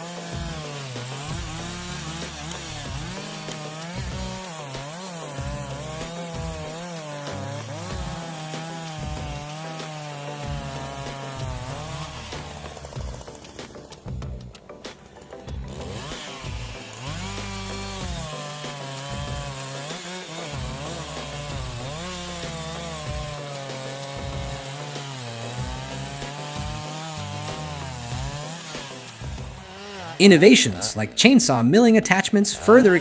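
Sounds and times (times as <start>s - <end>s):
chainsaw cutting wood: 0.0s - 31.0s.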